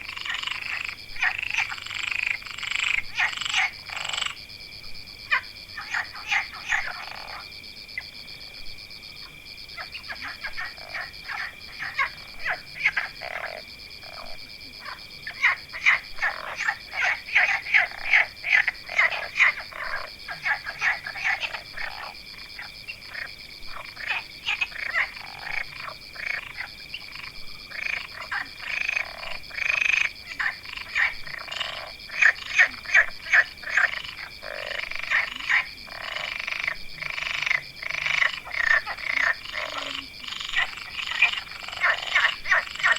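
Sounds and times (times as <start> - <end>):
chorus of animal calls: 5.2 - 7.5, 9.2 - 42.9.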